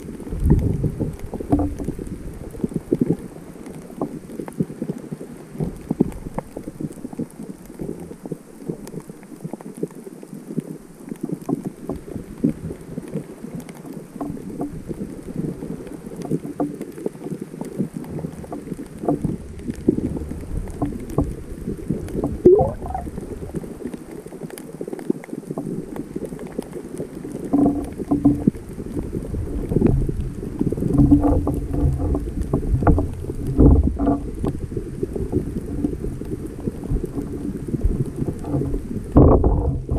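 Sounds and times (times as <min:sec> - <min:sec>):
clicks and knocks underwater: 0:00.0 - 0:39.9
muffled underwater churning: 0:00.0 - 0:39.9
water surges: 0:00.0 - 0:39.9.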